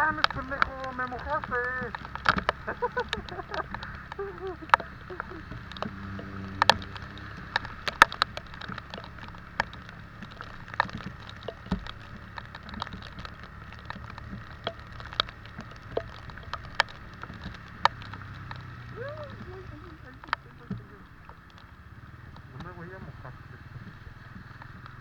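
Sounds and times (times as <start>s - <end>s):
motorcycle engine hum: 0.0s - 25.0s
raindrops tapping on hard surface: 0.0s - 25.0s.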